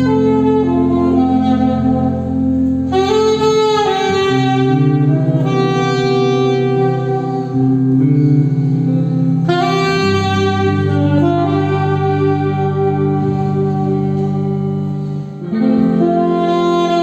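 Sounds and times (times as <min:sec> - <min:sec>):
band playing music: 0:00.0 - 0:17.0.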